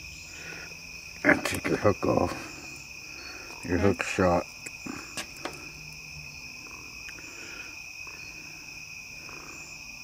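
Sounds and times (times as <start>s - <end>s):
crickets and insects trilling: 0.0s - 10.0s.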